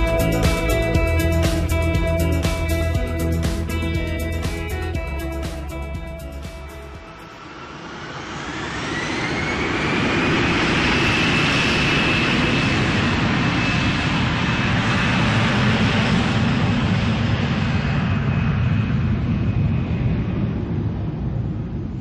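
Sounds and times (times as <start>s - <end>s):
jet engine whine: 0.0s - 22.0s
jet engines deep rumble: 0.0s - 22.0s.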